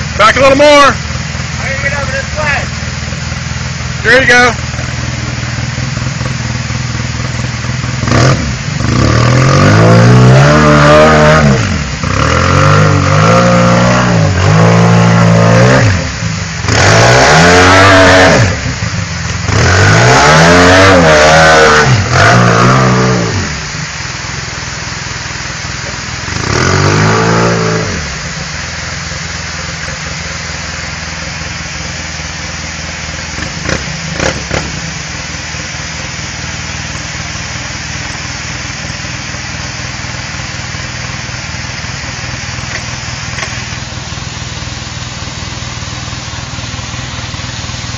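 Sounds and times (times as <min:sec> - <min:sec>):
vehicle engine revving: 0:00.0 - 0:47.9.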